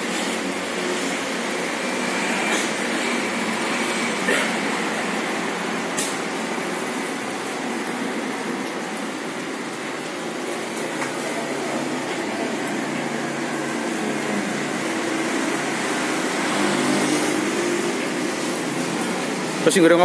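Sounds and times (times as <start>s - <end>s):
food frying in oil: 0.0s - 20.0s
gas burner hissing: 0.0s - 20.0s.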